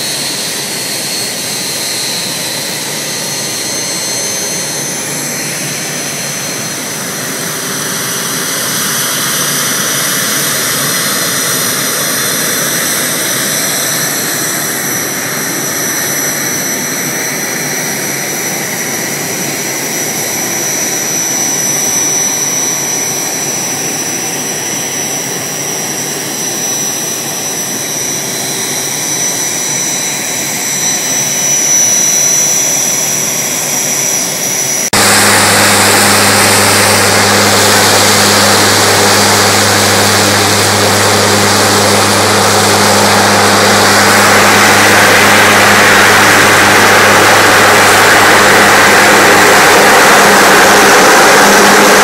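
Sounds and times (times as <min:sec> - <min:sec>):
jet engine whine: 0:00.0 - 0:52.0.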